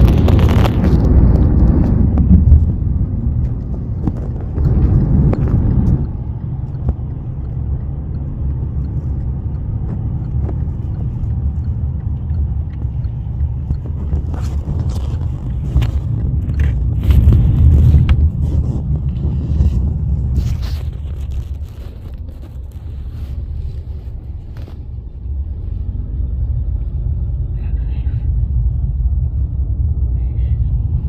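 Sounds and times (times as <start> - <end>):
road rumble inside moving car: 0.0 - 31.0.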